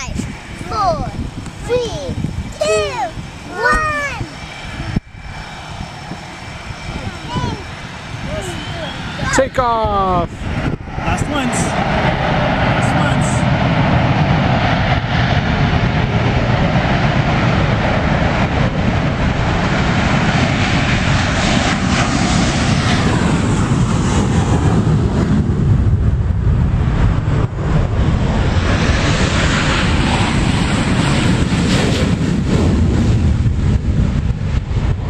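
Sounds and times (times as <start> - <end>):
fighter jet engine noise: 0.0 - 35.0.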